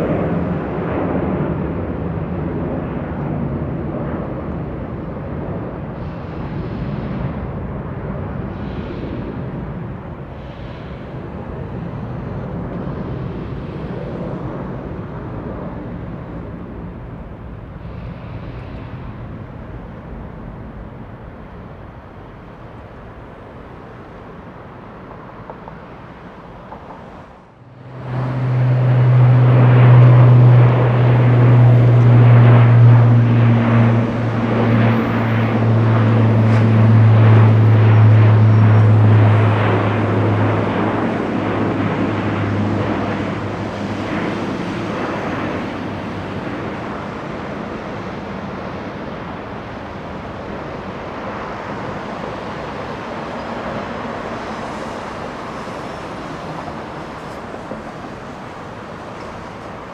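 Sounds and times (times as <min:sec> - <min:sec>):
deep propeller hum: 0:00.0 - 0:59.9
jet engines rumbling: 0:00.0 - 0:59.9.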